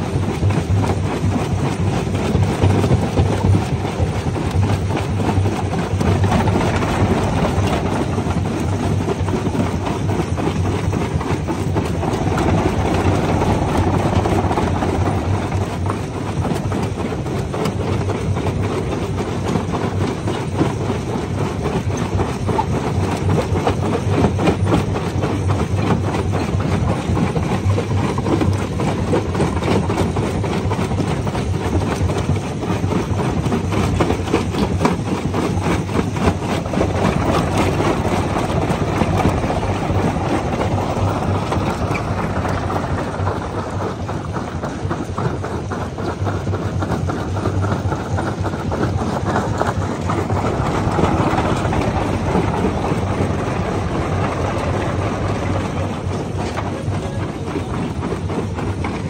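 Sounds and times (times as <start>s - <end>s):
crusher machine drone: 0.0s - 22.2s, 33.7s - 59.0s
rock rattling and cracking: 0.0s - 59.0s.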